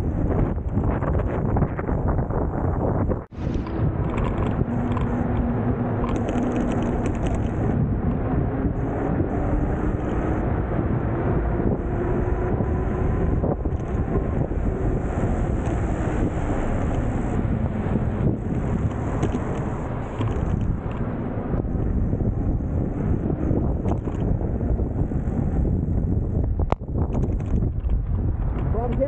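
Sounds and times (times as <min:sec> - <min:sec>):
road noise: 0:00.0 - 0:29.0
wind rushing over microphone: 0:00.0 - 0:29.0.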